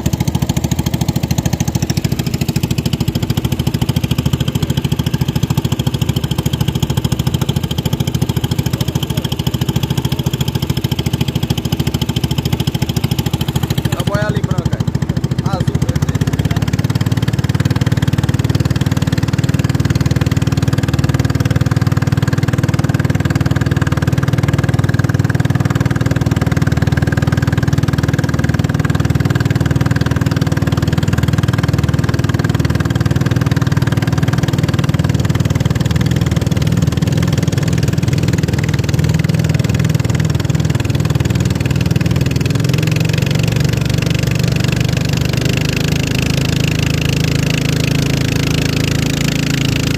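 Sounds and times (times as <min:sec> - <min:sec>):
racing boat engine running: 0:00.0 - 0:49.9.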